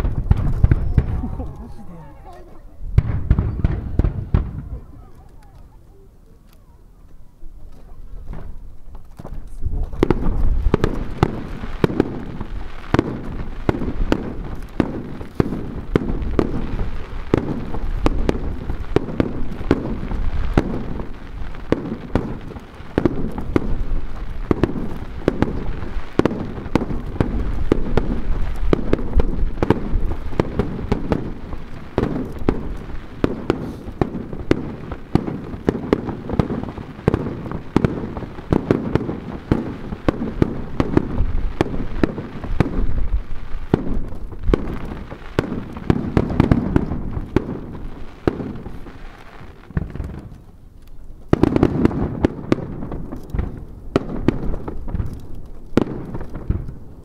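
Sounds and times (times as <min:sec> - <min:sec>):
fireworks launching and bursting: 0:00.0 - 0:57.0.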